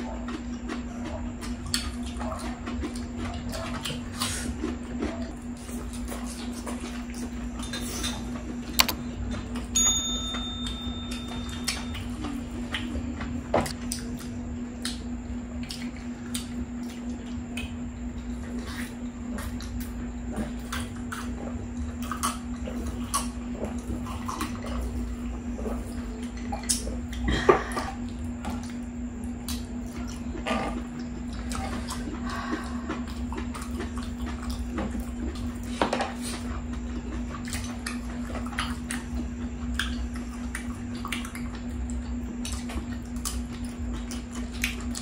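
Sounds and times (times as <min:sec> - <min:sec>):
wet chewing and slurping: 0:00.0 - 0:09.6, 0:11.2 - 0:45.0
steady low hum: 0:00.0 - 0:45.0.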